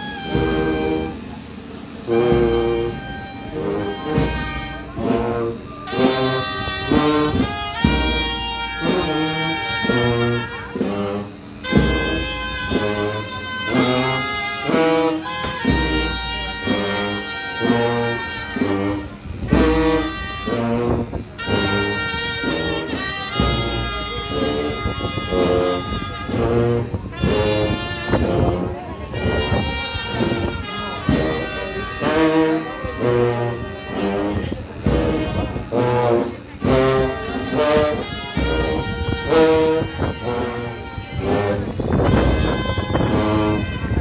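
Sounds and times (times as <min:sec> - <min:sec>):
brass band playing slow march: 0:00.0 - 0:44.0.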